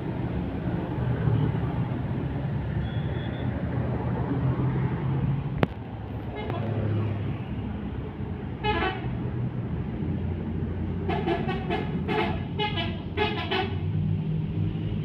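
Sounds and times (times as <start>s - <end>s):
heavy traffic rumble: 0.0s - 15.0s.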